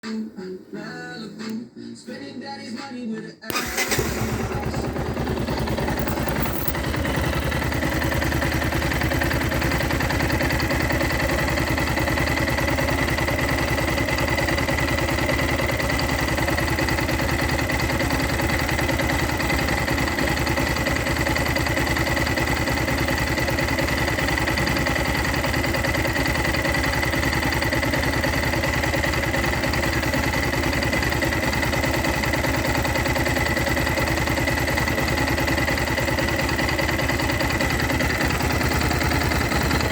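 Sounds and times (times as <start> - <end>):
motorcycle engine idling: 3.5 - 39.9.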